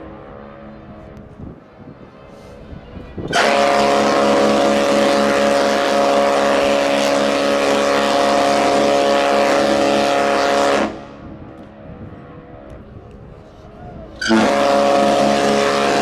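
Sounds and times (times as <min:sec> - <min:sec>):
ship horn long blast: 0:02.3 - 0:12.7, 0:13.5 - 0:16.0.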